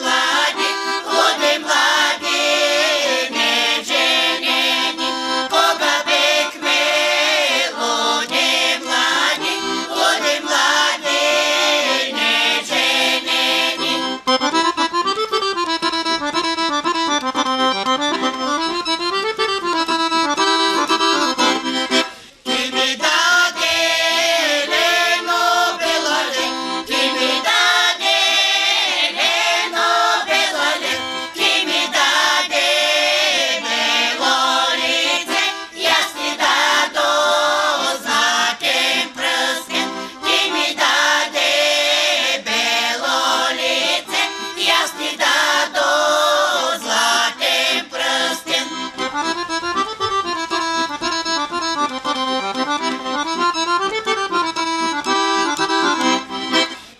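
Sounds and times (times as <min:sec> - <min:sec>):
accordion playing folk tune: 0:00.0 - 0:56.9.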